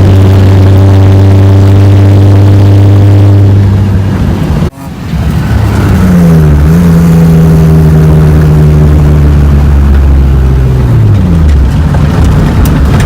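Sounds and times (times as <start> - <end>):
car engine running loud: 0.0 - 13.0.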